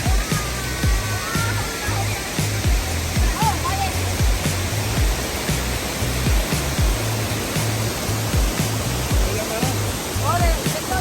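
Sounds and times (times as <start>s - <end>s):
electronic beat with kick drum: 0.0s - 11.0s
waterfall rushing: 0.0s - 11.0s.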